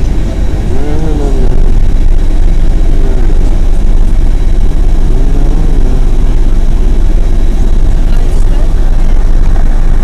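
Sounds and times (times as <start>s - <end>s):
low rumble of road vehicle: 0.0s - 10.0s.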